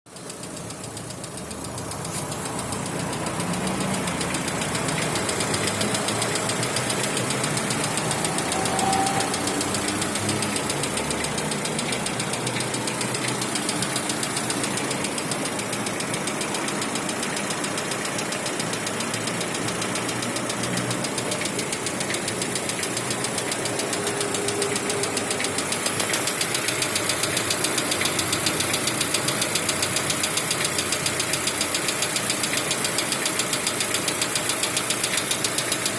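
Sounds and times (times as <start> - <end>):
car engine idling with knocking: 0.1 - 35.9.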